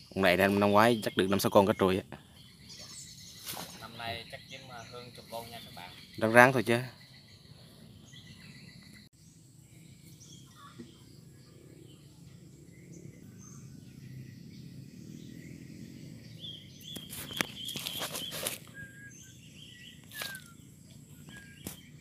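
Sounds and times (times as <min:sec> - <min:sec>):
bird chirps: 0:00.0 - 0:22.0
insects: 0:00.0 - 0:22.0.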